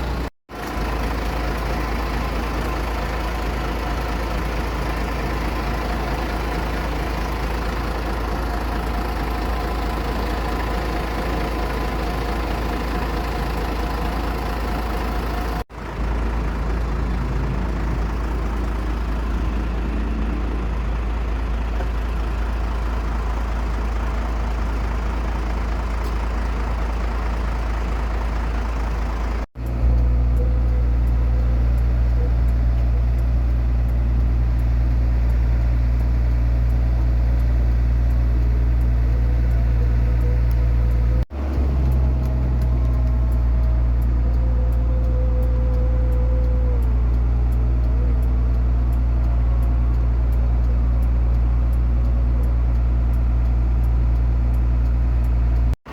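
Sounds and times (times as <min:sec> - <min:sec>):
engine running with deep hum: 0:00.0 - 0:55.9.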